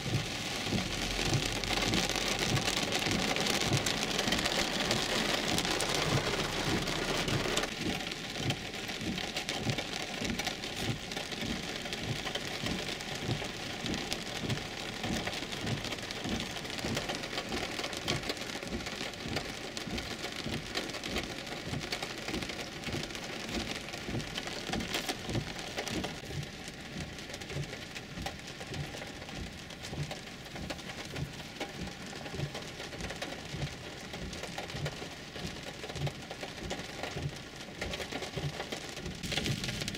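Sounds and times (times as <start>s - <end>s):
heavy rain on a car roof: 0.0s - 39.9s.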